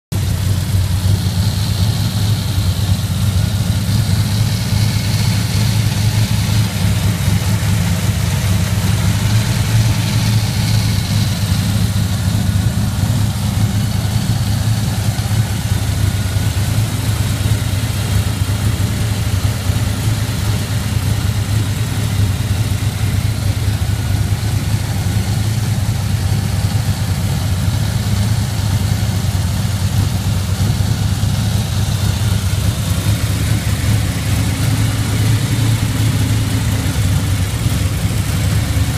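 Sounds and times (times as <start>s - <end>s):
truck engine idling: 0.1s - 38.9s.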